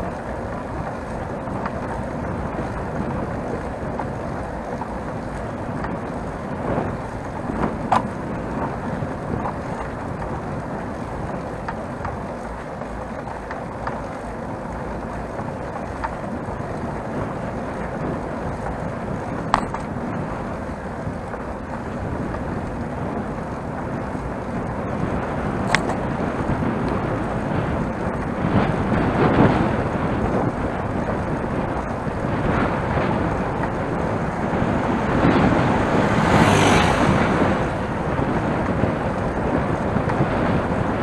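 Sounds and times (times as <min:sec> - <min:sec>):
bicycle clicks and rattles: 0:00.0 - 0:41.0
wind and tyre noise: 0:00.0 - 0:41.0.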